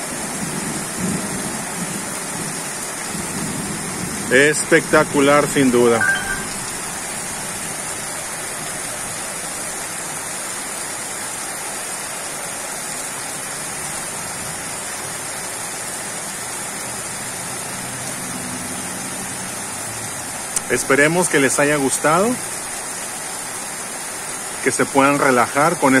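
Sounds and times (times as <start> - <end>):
rain on pavement: 0.0 - 26.0.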